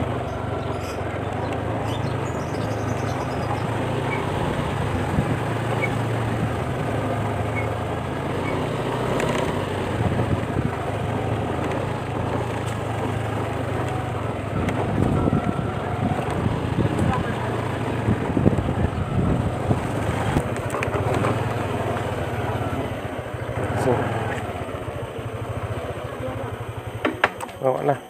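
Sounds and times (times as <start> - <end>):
scooter engine humming: 0.0 - 28.0.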